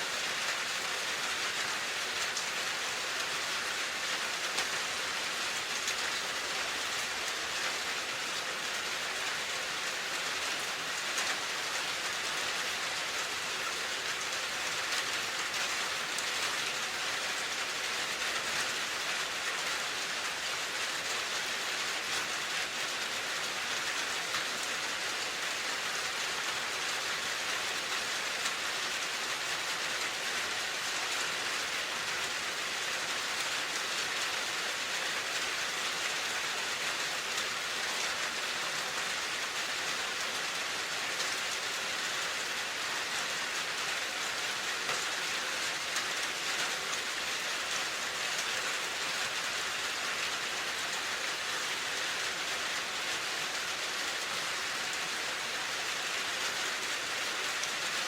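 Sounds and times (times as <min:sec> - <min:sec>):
dense rain pattering: 0:00.0 - 0:58.0.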